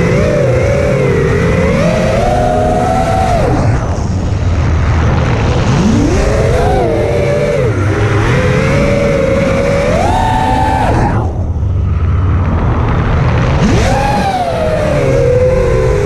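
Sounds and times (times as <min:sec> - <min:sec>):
quadcopter motors whining: 0:00.0 - 0:12.6, 0:13.3 - 0:16.0
rush of wind: 0:00.0 - 0:16.0.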